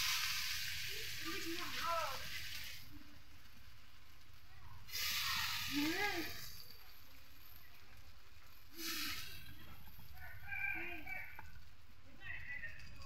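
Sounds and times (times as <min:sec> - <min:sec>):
leaves sizzling in hot oil: 0:00.0 - 0:12.4.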